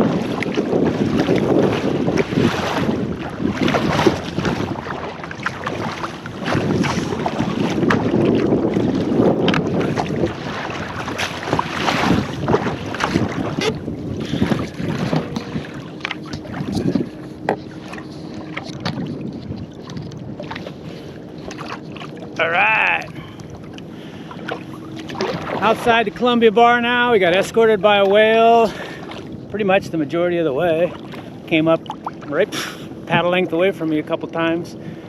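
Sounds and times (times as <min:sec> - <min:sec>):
water splashing around kayak: 0:00.0 - 0:35.0
wind buffeting microphone: 0:00.0 - 0:35.0.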